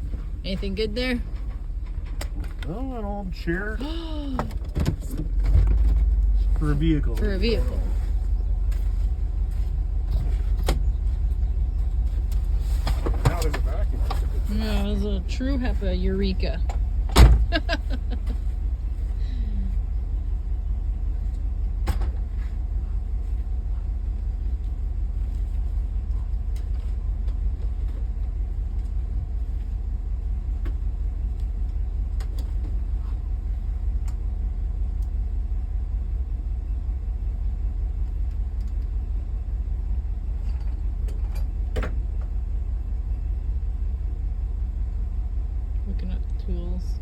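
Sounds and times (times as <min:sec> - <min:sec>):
vehicle rumbling over rough road: 0:00.0 - 0:47.0.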